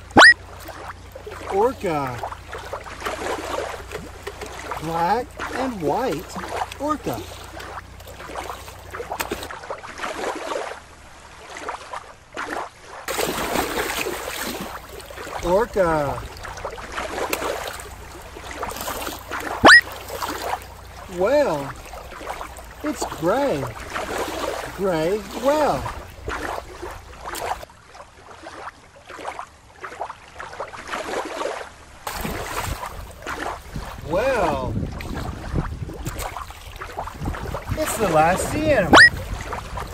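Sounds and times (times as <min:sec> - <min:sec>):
water lapping on rocky shore: 0:00.0 - 0:39.9
whale splashing in pool: 0:00.0 - 0:39.9.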